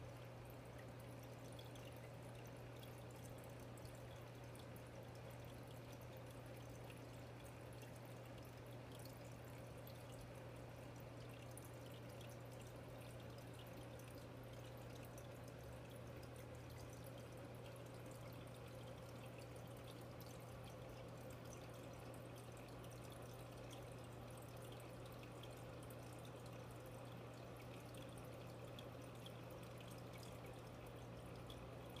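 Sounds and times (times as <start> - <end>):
aquarium pump hum: 0.0 - 32.0
water drips: 0.0 - 32.0
water trickling: 0.0 - 32.0.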